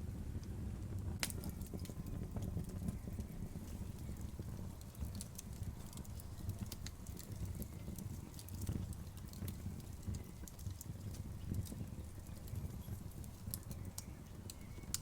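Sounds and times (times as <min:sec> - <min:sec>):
bonfire crackling and popping: 0:00.0 - 0:15.0
low rumble of burning: 0:00.0 - 0:15.0.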